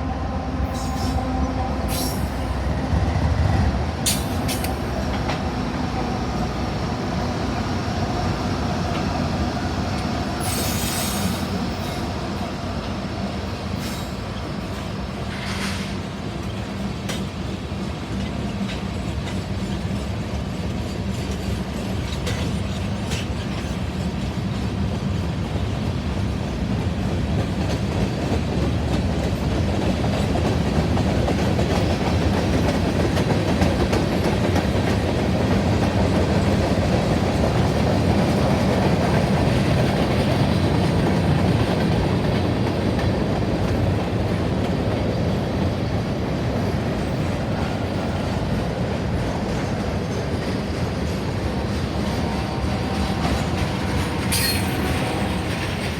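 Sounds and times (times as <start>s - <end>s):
freight train wheels rumbling on rail: 0.0s - 55.9s.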